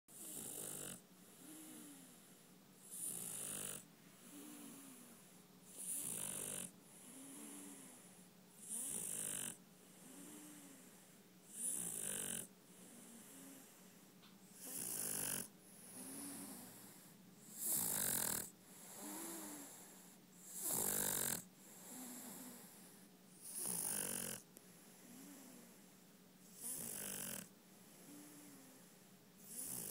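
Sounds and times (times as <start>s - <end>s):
dog snoring: 0.1s - 13.9s, 14.5s - 25.8s, 26.4s - 29.9s.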